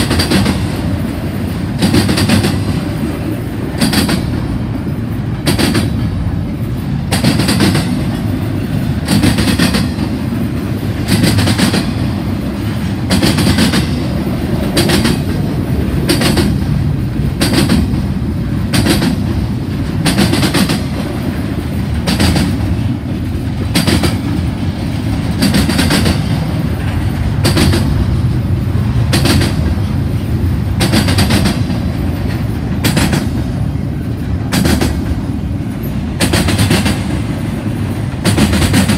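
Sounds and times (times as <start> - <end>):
train cars rumbling past: 0.0 - 38.9
wheel clacks over rail joints: 0.0 - 38.9.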